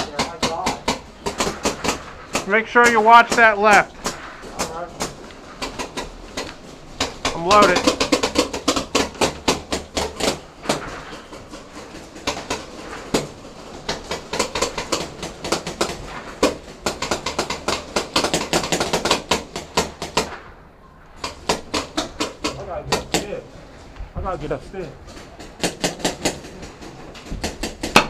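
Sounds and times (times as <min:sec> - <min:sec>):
paintball markers popping: 0:00.0 - 0:20.4, 0:21.1 - 0:23.3.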